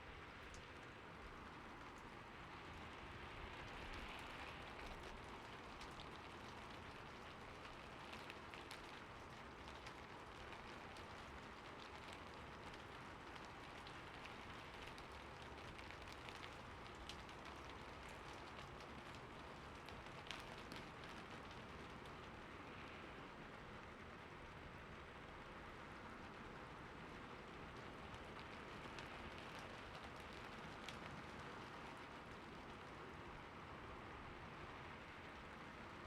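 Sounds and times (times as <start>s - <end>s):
faint steady rain: 0.0s - 36.0s
raindrop ticks: 0.2s - 23.0s, 26.2s - 33.8s.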